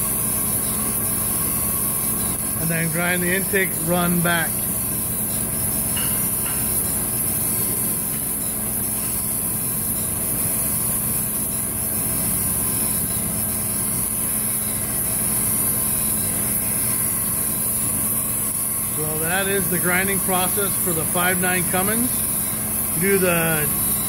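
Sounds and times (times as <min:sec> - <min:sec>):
grinding machine hum: 0:00.0 - 0:24.0
high hiss of cutting oil: 0:00.0 - 0:24.0.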